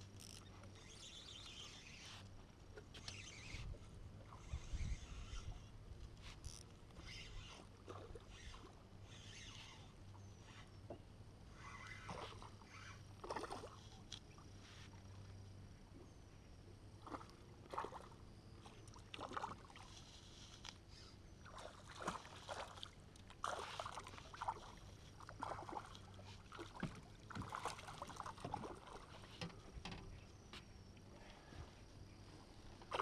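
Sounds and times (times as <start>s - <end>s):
water splashing against boat: 0.0s - 15.4s, 16.9s - 20.7s, 21.4s - 31.6s, 32.4s - 33.0s.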